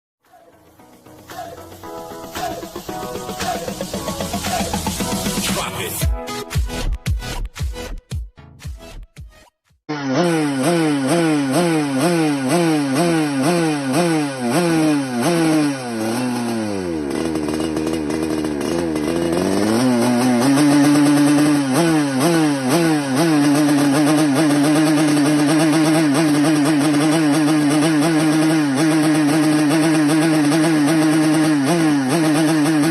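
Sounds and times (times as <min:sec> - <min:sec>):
motorcycle engine revving: 0:00.4 - 0:05.7, 0:09.9 - 0:32.9.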